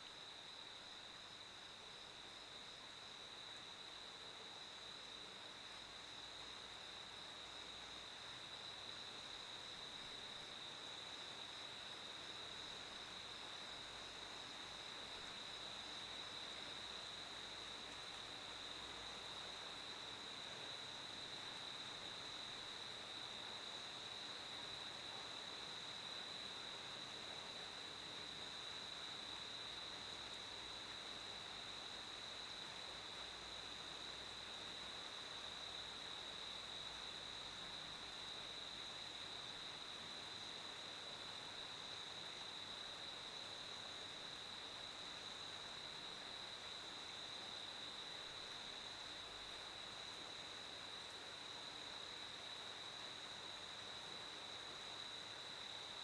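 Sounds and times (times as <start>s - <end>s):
faint hiss: 0.0s - 56.0s
crickets trilling: 0.1s - 56.0s.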